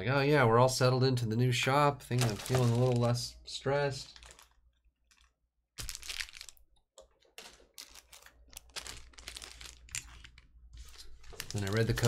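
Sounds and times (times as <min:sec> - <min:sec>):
foil packs crinkling and clicking: 0:02.1 - 0:12.0.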